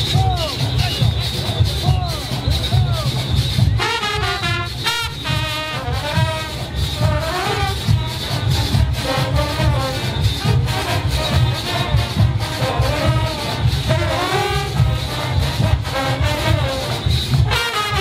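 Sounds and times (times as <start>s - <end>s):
heavy pulsing drum beat: 0.0s - 18.0s
brass section melody: 3.1s - 18.0s.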